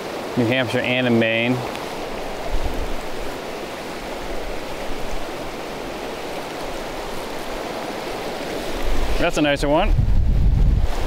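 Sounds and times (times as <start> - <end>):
river rapids rushing over rocks: 0.0 - 9.8.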